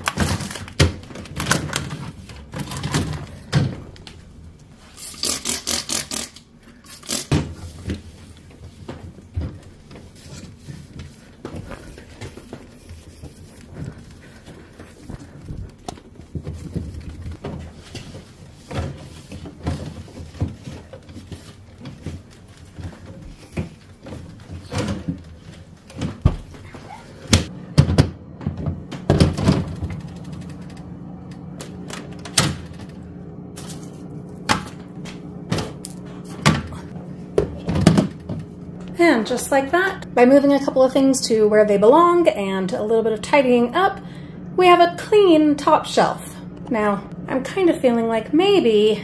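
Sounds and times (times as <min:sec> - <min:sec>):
low steady hum: 0:06.0 - 0:49.0.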